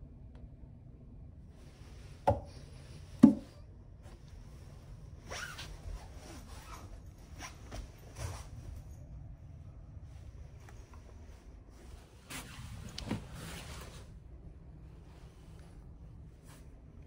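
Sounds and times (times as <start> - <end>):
soft rubbing and rustling: 1.5 - 17.0.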